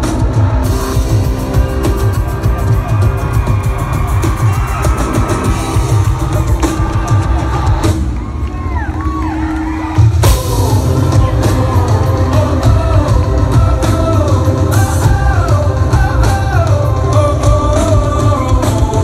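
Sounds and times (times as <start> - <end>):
crowd cheering and whooping: 0.0 - 19.0
live pop-rock band: 0.0 - 19.0
pounding drums: 0.0 - 19.0.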